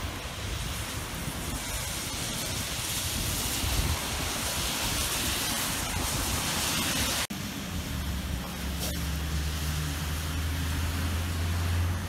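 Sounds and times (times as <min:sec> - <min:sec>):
cars driving on wet road: 0:00.0 - 0:12.0
rain falling: 0:00.0 - 0:12.0.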